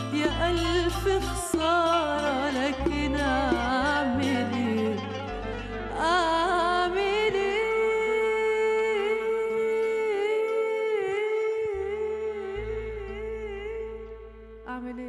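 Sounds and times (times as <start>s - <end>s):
low instrumental accompaniment: 0.0s - 15.0s
violin: 0.0s - 15.0s
woman singing into microphone: 0.0s - 15.0s.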